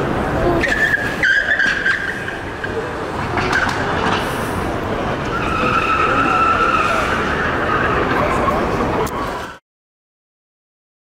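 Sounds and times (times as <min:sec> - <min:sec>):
loud rushing noise: 0:00.0 - 0:09.6
car tyres squealing: 0:00.4 - 0:09.5.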